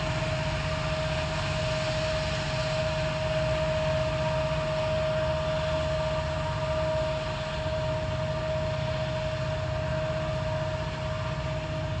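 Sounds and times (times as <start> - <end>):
heavy diesel engine rumble: 0.0 - 12.0.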